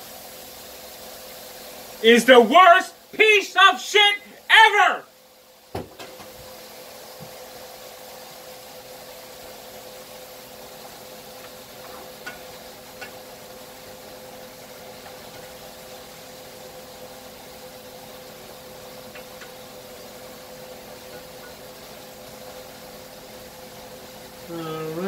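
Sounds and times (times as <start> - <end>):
meat sizzling in a frying pan: 0.0 - 2.0, 5.4 - 24.5
steady hum: 1.6 - 6.5, 7.4 - 25.0.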